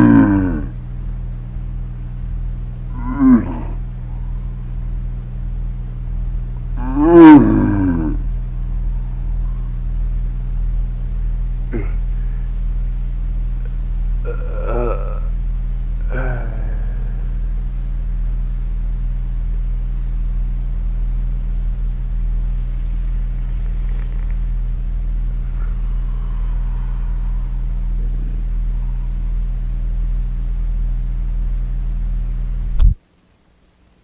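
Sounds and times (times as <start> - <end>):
low droning hum: 0.0 - 34.0.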